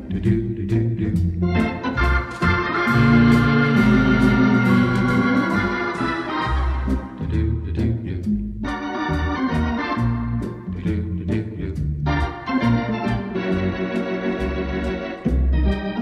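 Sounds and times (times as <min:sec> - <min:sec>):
organ chords: 0:00.0 - 0:16.0
steady beat: 0:00.0 - 0:16.0.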